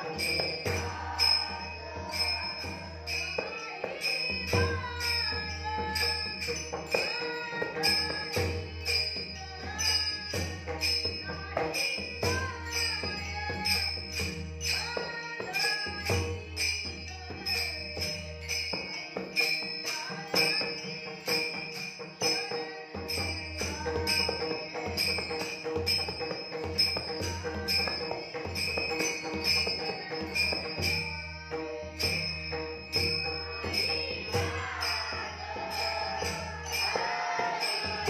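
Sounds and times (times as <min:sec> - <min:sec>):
boy singing: 0:00.0 - 0:14.1, 0:14.7 - 0:25.6, 0:26.9 - 0:38.0
hand cymbals clashing: 0:00.0 - 0:38.0.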